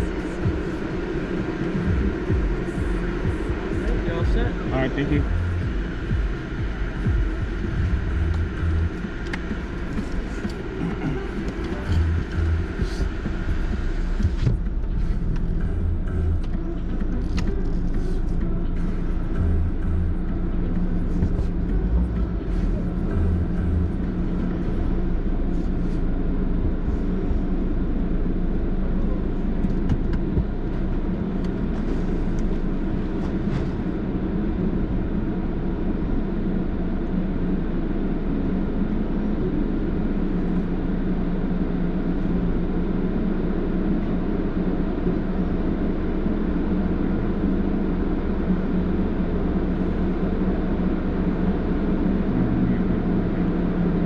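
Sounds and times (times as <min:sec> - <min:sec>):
car wash rumble: 0:00.0 - 0:54.0
constant hum: 0:00.0 - 0:54.0.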